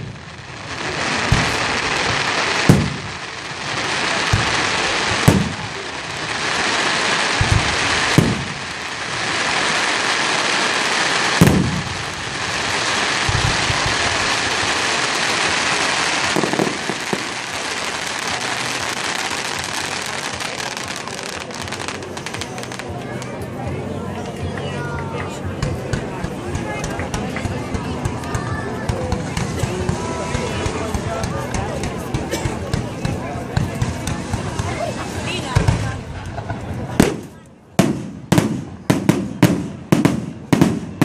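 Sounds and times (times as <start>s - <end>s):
fireworks shells booming: 0.0s - 23.0s, 25.6s - 41.0s
hissing crackle of fireworks: 0.0s - 41.0s.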